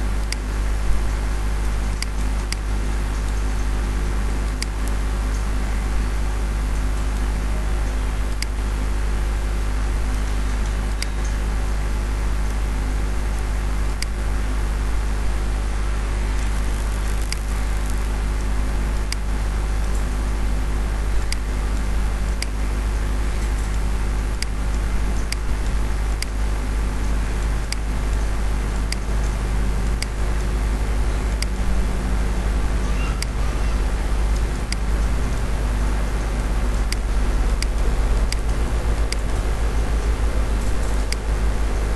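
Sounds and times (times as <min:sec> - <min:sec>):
electrical hum with hiss: 0:00.0 - 0:41.9.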